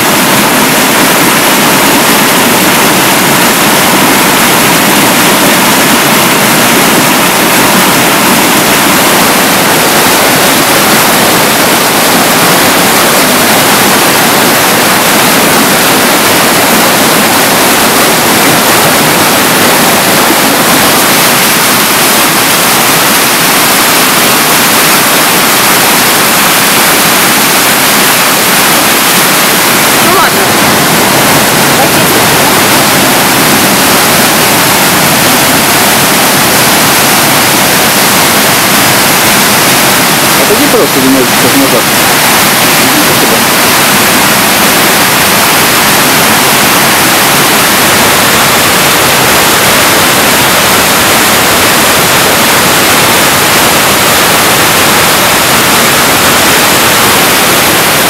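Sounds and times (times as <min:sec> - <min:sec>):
river rushing over boulders: 0:00.0 - 0:58.0.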